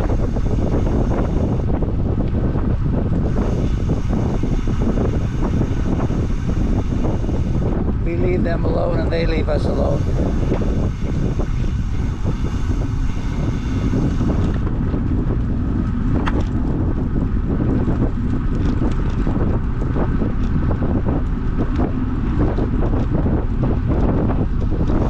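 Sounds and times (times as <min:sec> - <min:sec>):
rumbling road noise: 0:00.0 - 0:25.0
wind buffeting microphone: 0:00.0 - 0:25.0.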